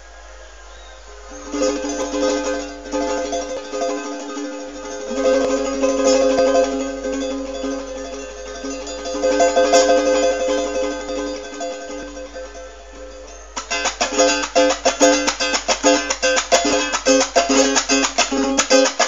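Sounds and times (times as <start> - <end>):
small plucked string instrument strummed: 0.0 - 19.0.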